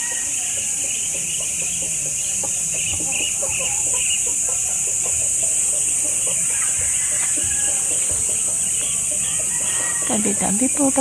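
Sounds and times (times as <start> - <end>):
rapid clucking bird calls: 0.0 - 11.0
steady high-pitched buzz: 0.0 - 11.0.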